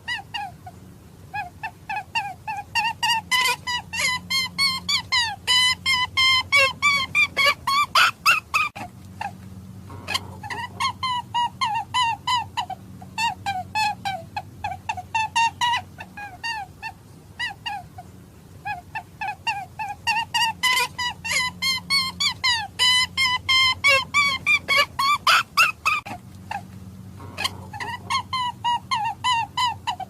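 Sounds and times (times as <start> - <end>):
squeaky lure calls: 1.4 - 17.9, 18.7 - 30.0.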